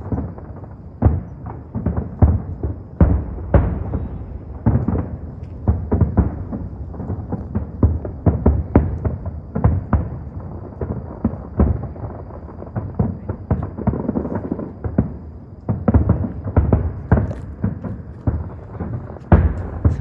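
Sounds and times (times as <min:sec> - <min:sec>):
fireworks booming: 0:00.0 - 0:20.0.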